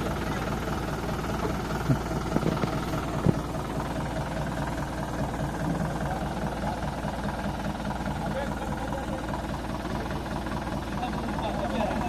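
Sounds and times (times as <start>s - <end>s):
heavy diesel machinery running: 0.0s - 12.0s.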